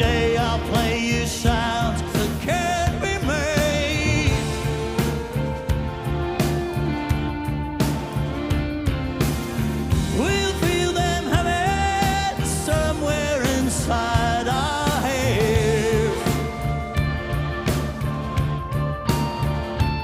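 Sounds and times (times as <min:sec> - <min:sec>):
bass and drums rhythm: 0:00.0 - 0:20.0
rock band playing live: 0:00.0 - 0:20.0
wavering lead melody: 0:00.0 - 0:20.0.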